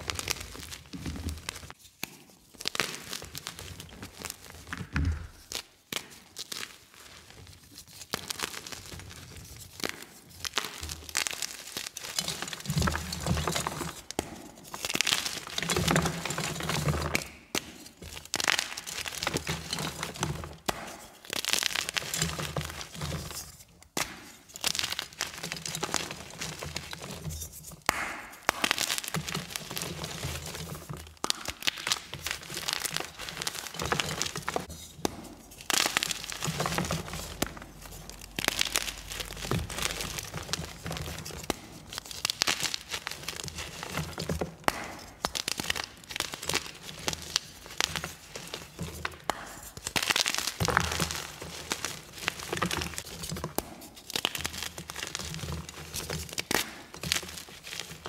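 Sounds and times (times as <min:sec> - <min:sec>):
chalk crunching and crumbling: 0:00.0 - 0:58.0.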